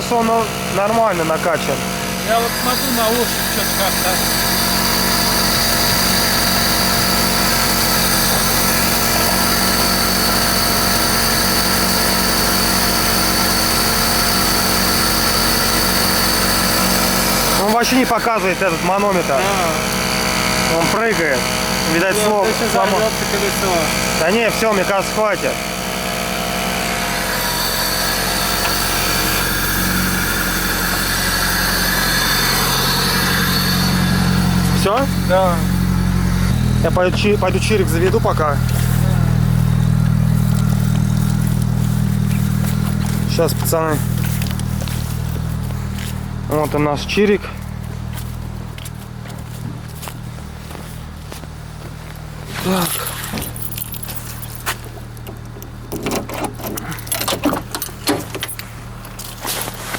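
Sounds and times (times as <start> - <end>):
car engine idling: 0.0 - 59.9
tyre compressor running: 0.0 - 59.9.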